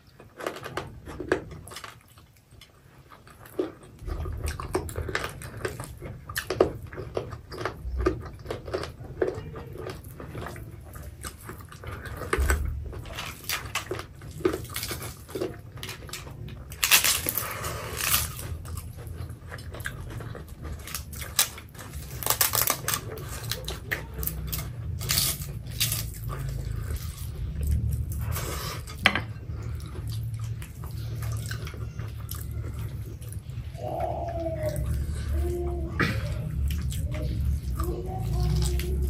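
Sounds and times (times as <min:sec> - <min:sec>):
chewing and lip smacking: 0:00.0 - 0:39.0.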